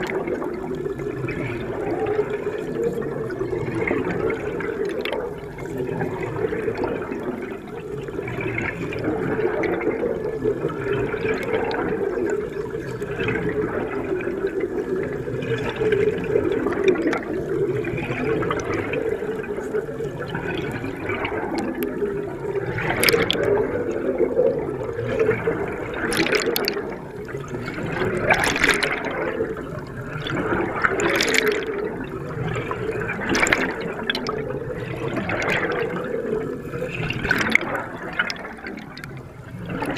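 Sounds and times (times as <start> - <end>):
water churning and gurgling: 0.0 - 39.9.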